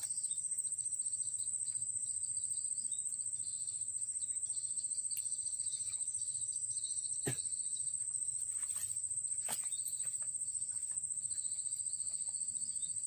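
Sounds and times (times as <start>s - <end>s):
high-pitched insect trill: 0.0s - 13.0s
insect chirring chorus: 0.0s - 13.0s.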